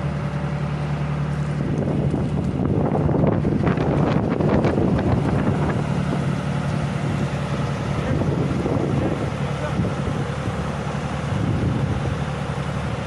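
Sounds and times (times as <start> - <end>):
vehicle engine running: 0.0 - 13.0
wind noise on microphone: 1.6 - 13.0.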